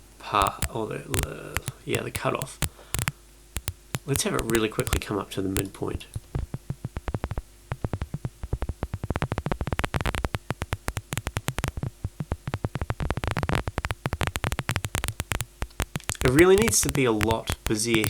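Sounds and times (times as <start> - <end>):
synthesized crackling clicks: 0.0 - 18.0.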